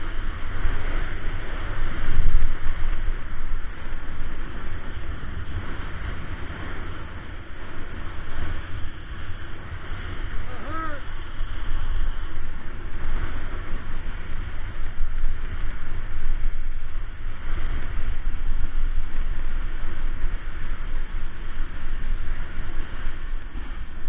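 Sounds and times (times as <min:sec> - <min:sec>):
snowboard scraping over snow: 0:00.0 - 0:24.0
wind buffeting microphone: 0:00.0 - 0:24.0.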